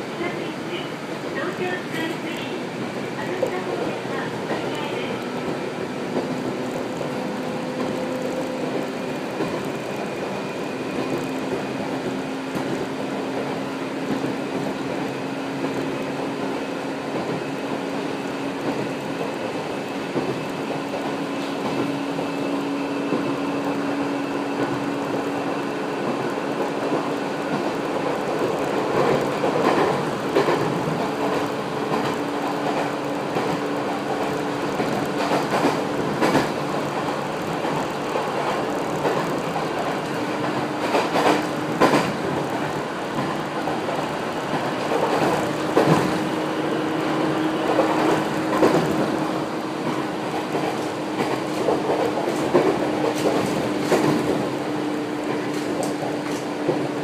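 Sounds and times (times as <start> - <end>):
train drive hum: 0.0 - 57.0
wheels rumbling on track: 0.0 - 57.0.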